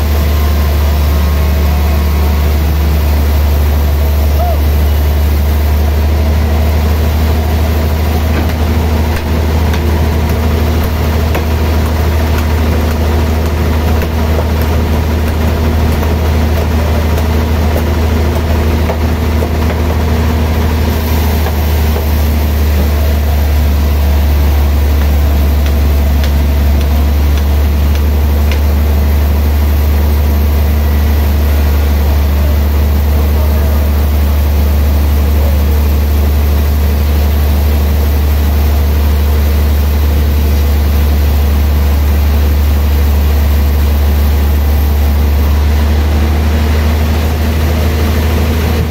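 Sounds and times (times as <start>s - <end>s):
sawmill drive droning: 0.0s - 48.9s.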